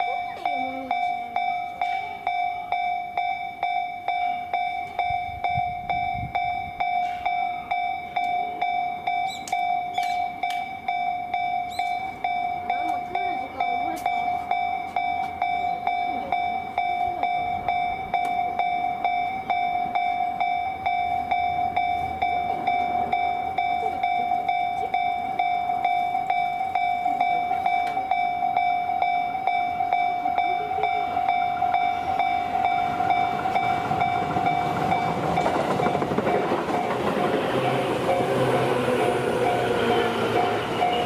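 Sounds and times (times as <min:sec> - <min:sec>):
electric train rumble: 0:00.0 - 0:41.0
level-crossing alarm ringing: 0:00.0 - 0:41.0.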